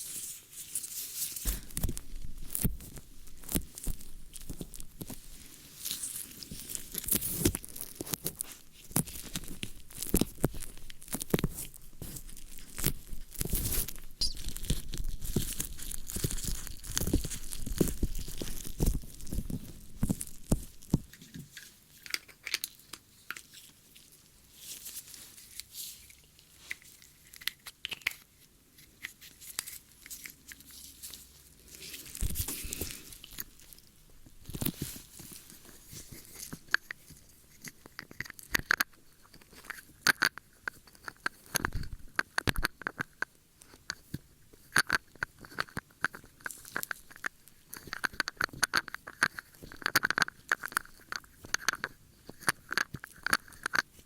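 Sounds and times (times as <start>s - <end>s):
close-up scratching and crackling clicks: 1.3s - 54.0s.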